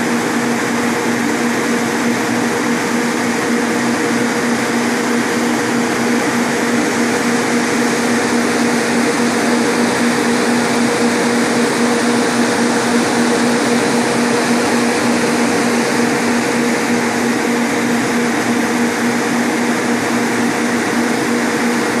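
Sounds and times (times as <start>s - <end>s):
electric fans running: 0.0s - 22.0s.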